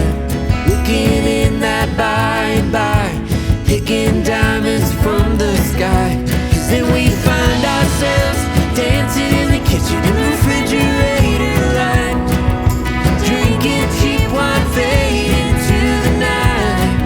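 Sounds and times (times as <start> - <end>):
country-pop song with guitar: 0.0 - 17.0.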